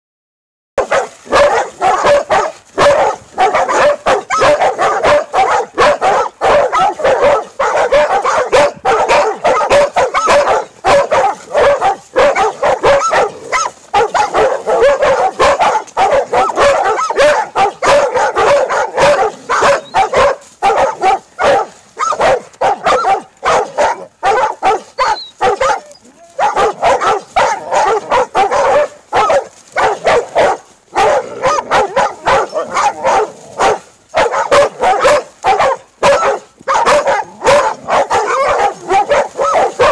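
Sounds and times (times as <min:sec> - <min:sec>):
dogs barking rapidly: 0:00.8 - 0:39.9.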